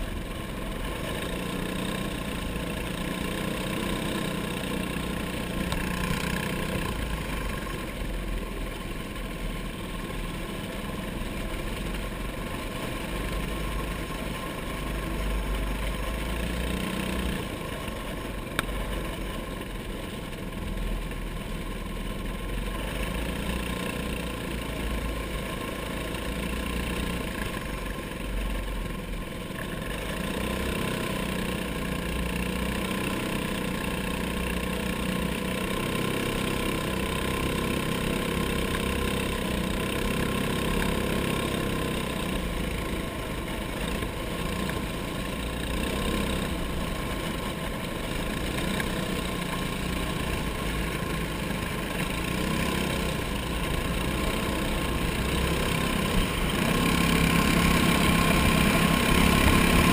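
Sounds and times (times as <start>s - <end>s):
kart engine running at speed: 0.0s - 59.9s.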